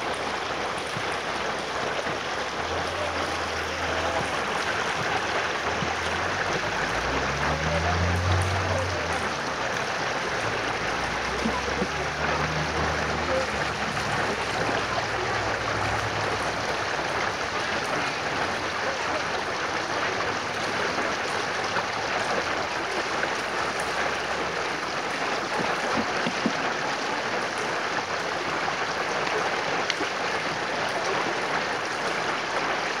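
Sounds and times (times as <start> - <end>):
stream rushing over stones: 0.0 - 33.0.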